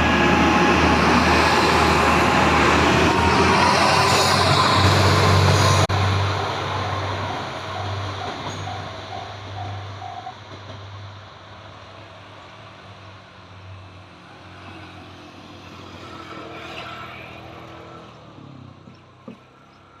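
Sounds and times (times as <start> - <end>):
railcar engine hum and rail noise: 0.0 - 20.0.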